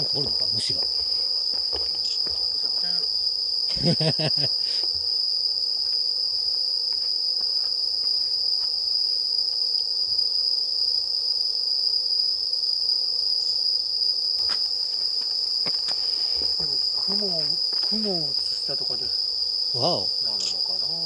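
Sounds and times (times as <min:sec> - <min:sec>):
insects chirping at night: 0:00.0 - 0:21.0.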